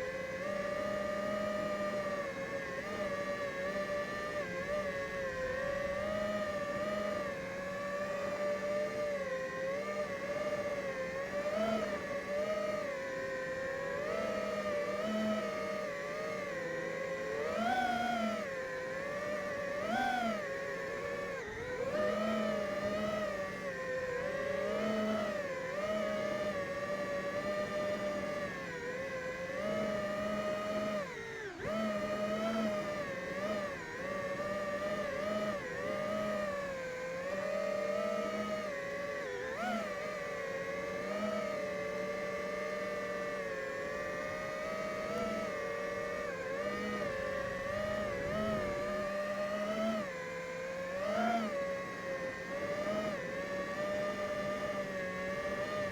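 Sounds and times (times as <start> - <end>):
quadcopter motors whining: 0.0 - 55.9.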